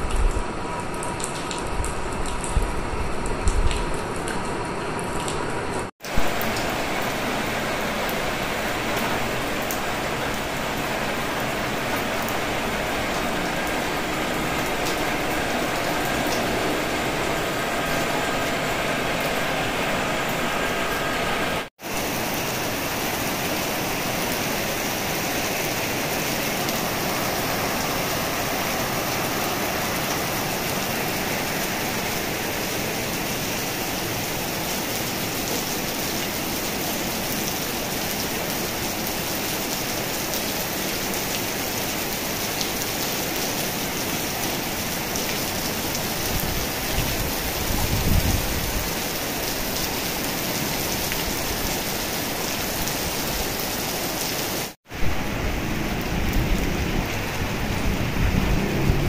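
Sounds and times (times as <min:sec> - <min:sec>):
heavy rain on concrete and roofs: 0:00.0 - 0:59.0.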